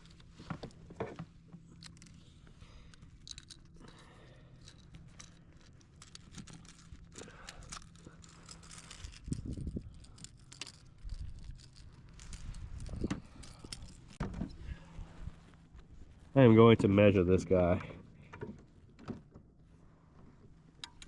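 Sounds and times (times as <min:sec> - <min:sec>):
small clicks and rustles: 0:00.0 - 0:16.4, 0:18.0 - 0:21.0.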